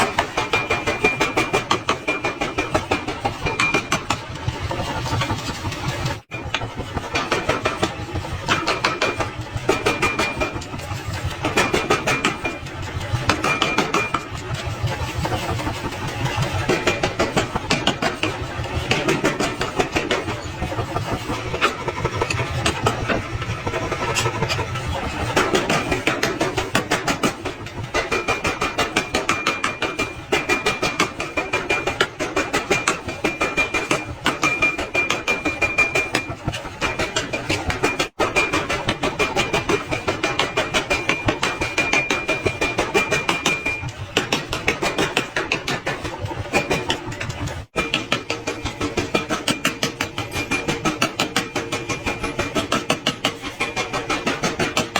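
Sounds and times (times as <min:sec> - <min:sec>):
steady machine running: 0:00.0 - 0:54.9.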